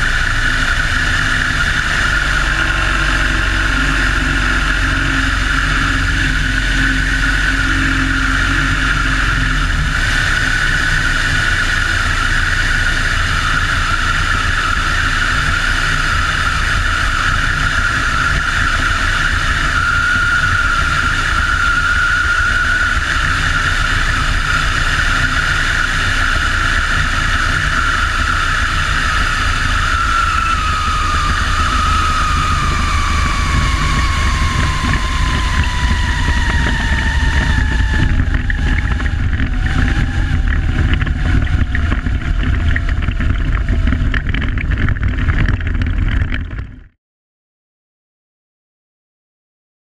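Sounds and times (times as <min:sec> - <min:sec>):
wind rush: 0:00.0 - 0:46.7
propeller plane engine: 0:00.0 - 0:47.0.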